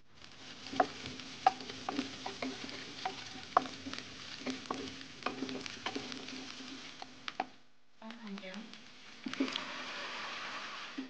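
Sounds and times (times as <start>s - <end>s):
wooden spatula scraping a wok: 0.0s - 7.6s, 8.7s - 11.0s
onion sizzling in hot oil: 0.0s - 11.0s.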